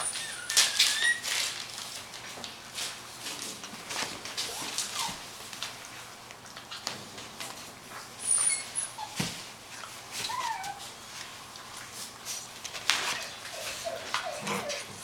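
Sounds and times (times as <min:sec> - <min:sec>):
puppy rustling and scuffling: 0:00.0 - 0:15.0.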